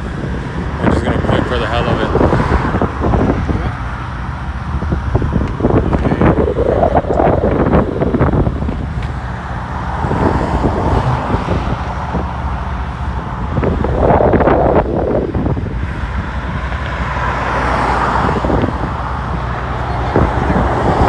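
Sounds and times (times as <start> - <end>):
road traffic passing: 0.0 - 21.0
wind rumbling on microphone: 0.0 - 21.0.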